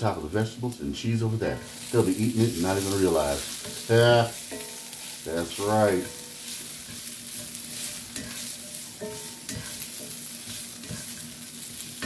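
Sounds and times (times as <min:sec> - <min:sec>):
peppers sizzling in a skillet: 0:00.0 - 0:12.0
spatula scraping and tapping pan: 0:01.5 - 0:12.0.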